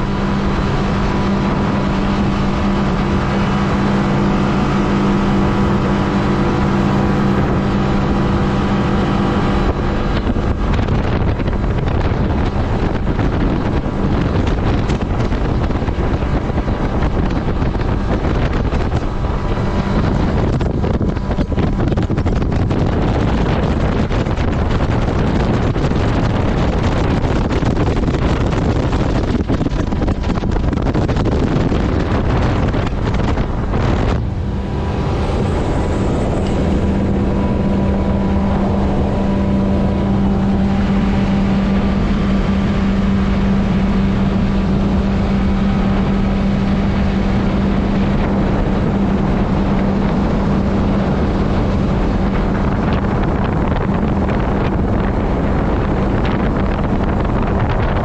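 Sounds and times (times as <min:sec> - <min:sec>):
boat engine drone: 0:00.0 - 0:58.0
water rushing past boat: 0:00.0 - 0:58.0
wind buffeting microphone: 0:00.0 - 0:58.0.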